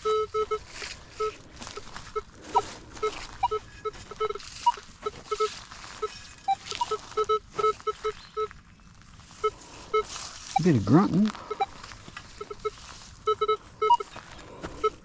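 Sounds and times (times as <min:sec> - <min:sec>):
metal detector beeping: 0:00.0 - 0:08.6, 0:09.4 - 0:15.0.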